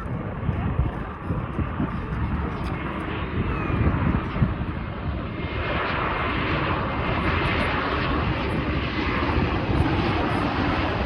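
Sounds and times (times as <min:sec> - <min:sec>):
jet airliner passing overhead: 0:00.0 - 0:11.0.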